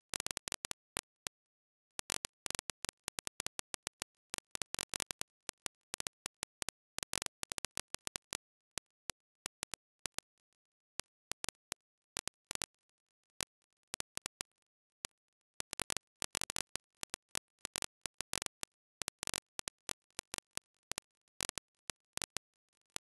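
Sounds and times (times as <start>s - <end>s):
sharp clicks and pops: 0.0s - 10.4s, 11.0s - 23.0s.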